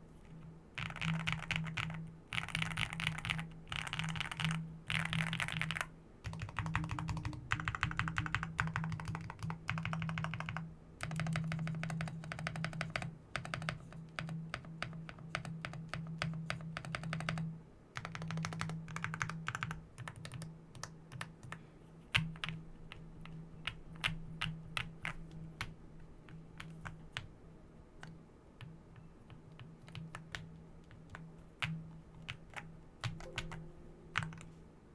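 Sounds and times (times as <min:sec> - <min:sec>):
mechanical keyboard typing: 0:00.8 - 0:27.3, 0:28.0 - 0:34.5.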